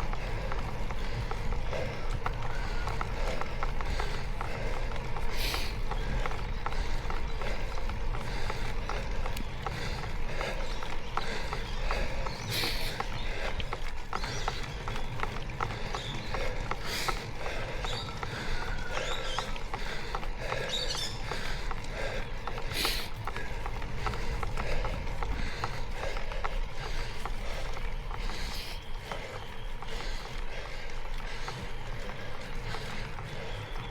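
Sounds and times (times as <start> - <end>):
bicycle ticking and rattling: 0.0 - 33.9
heavy breathing: 0.0 - 33.9
rumble of wind and road: 0.0 - 33.9.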